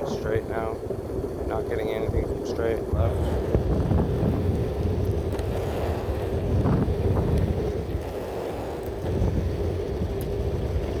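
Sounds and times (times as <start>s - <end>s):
skateboard wheel rumble: 0.0s - 11.0s
wind on microphone: 0.0s - 11.0s.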